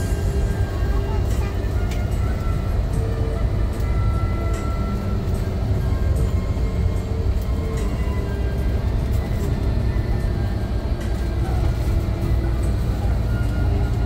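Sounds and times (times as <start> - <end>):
bus engine rumble: 0.0 - 14.0
music playing: 0.0 - 14.0.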